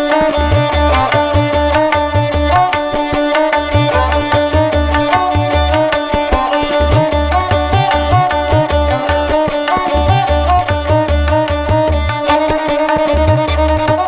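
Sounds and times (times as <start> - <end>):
plucked strings: 0.0 - 14.0.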